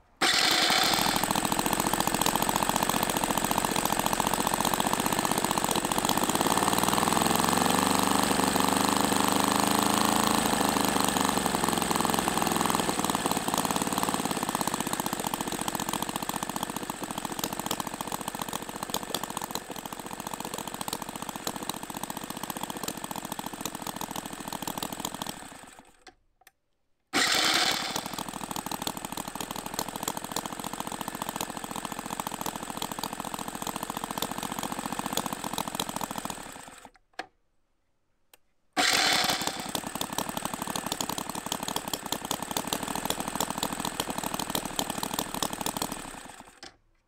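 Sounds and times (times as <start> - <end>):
model petrol engine running: 0.2 - 26.0, 27.2 - 36.9, 38.8 - 46.8.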